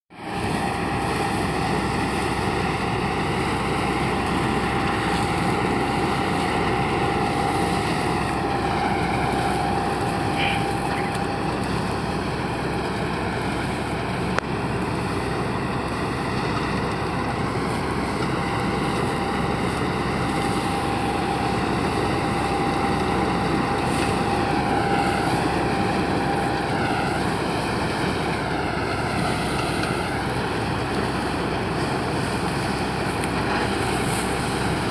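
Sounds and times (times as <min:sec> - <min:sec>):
combine harvester running: 0:00.1 - 0:34.9
whining tone: 0:00.3 - 0:34.9.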